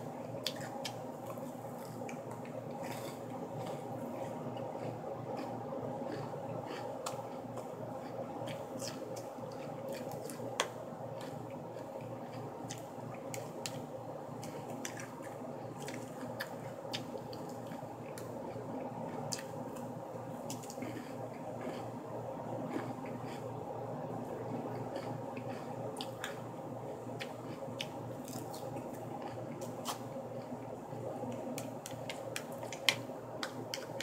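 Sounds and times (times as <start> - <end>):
chewing salad: 0.1 - 22.0, 22.6 - 23.5, 24.4 - 34.0.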